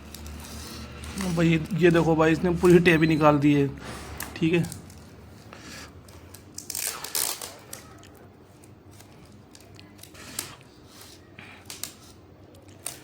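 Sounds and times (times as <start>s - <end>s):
plastic tape crinkling: 0.0s - 2.8s, 4.2s - 13.0s.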